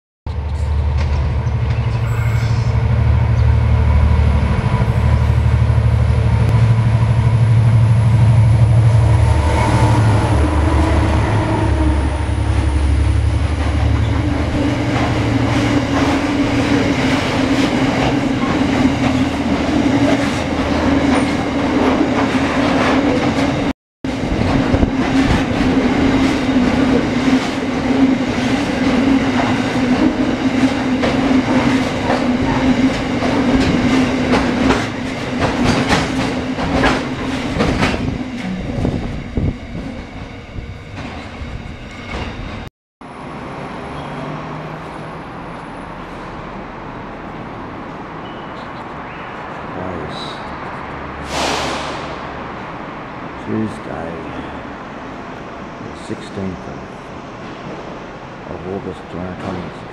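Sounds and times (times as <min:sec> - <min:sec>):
diesel locomotive engine drone: 0:00.3 - 0:59.9.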